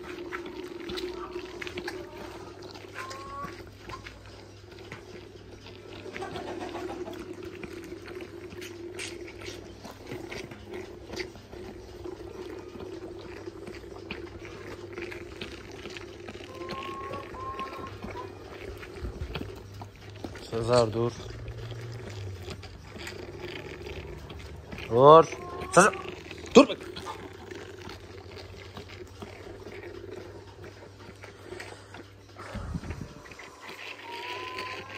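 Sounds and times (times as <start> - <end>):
steady low hum: 0.0 - 34.1
calf sucking from bottle teat: 0.0 - 34.9.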